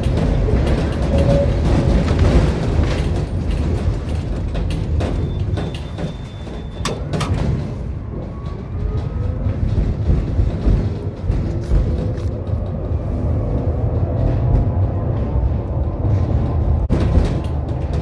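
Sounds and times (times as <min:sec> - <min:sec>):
tram rumbling on rails: 0:00.0 - 0:18.0.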